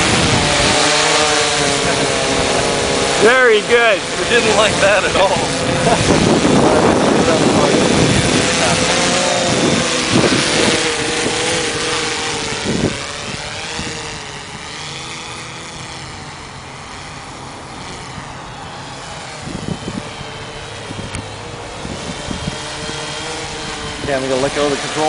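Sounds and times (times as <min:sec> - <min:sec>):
drone propellers humming: 0:00.0 - 0:25.0
wind buffeting microphone: 0:00.0 - 0:25.0.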